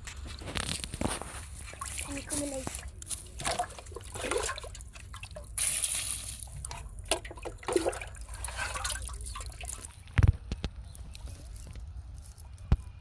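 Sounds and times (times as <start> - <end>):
water splashing and dripping: 0.7 - 11.8.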